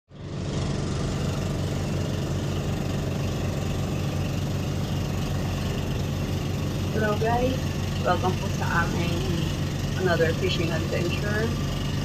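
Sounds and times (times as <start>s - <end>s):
boat engine running: 0.1s - 12.0s.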